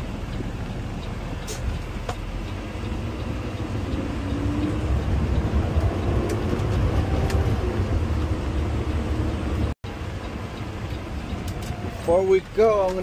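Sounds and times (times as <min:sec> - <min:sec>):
diesel engine rumbling: 0:00.0 - 0:13.0
road noise: 0:00.0 - 0:13.0.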